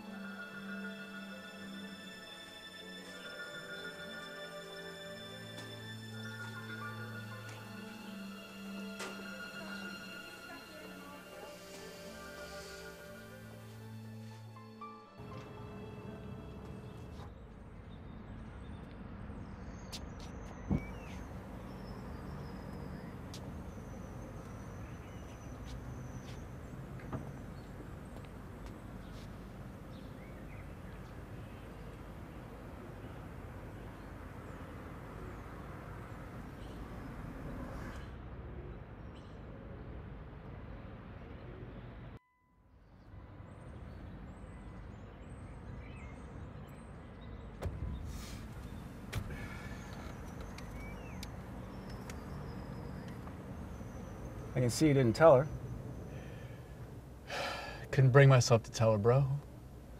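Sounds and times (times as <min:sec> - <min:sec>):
outdoor background rumble: 0:05.6 - 0:42.2, 0:42.9 - 0:59.9.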